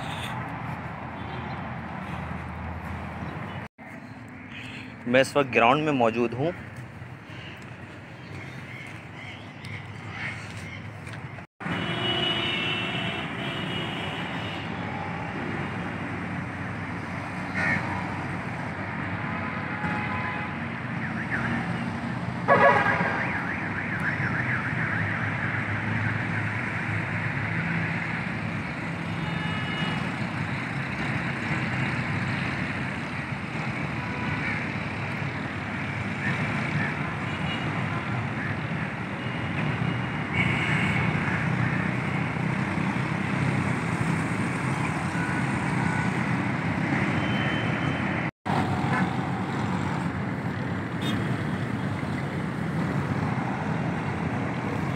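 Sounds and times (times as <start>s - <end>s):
distant road traffic: 0.0s - 54.9s.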